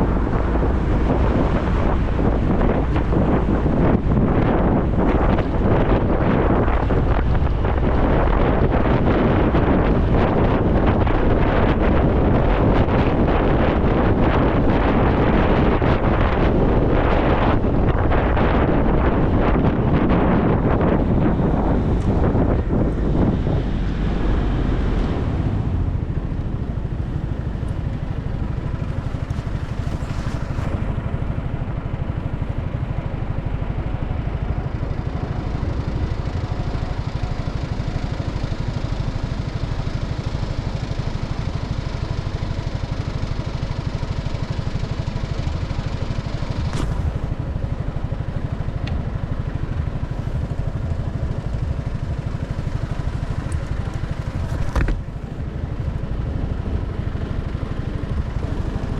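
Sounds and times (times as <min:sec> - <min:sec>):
motorcycle cruising: 0:00.0 - 0:58.9
wind rushing across microphone: 0:00.0 - 0:58.9.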